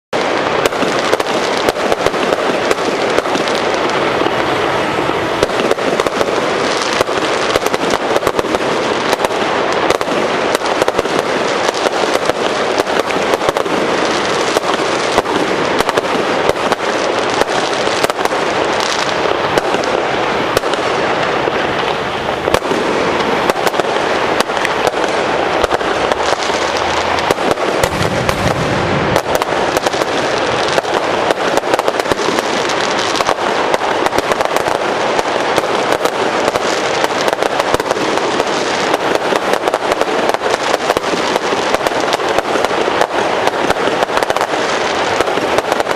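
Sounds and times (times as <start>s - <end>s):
fireworks crackling and popping: 0.1s - 45.9s.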